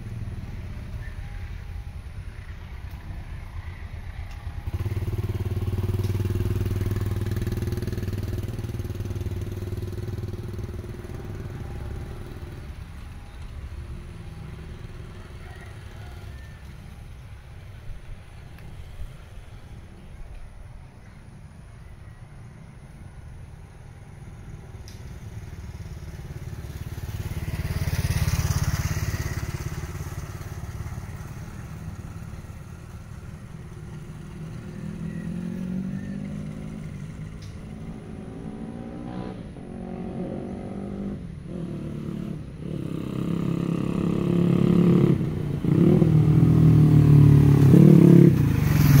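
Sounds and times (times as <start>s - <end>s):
motorcycle engine approaching: 0.0s - 49.0s.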